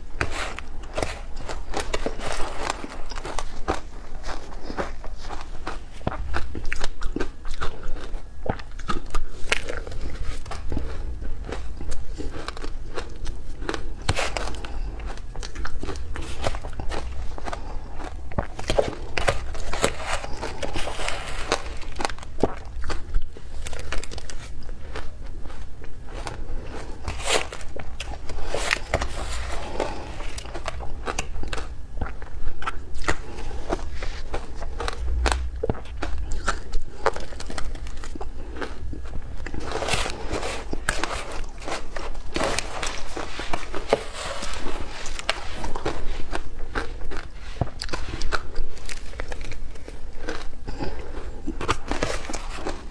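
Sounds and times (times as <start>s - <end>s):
ice being chewed crunching: 0.1s - 36.0s, 37.4s - 52.8s.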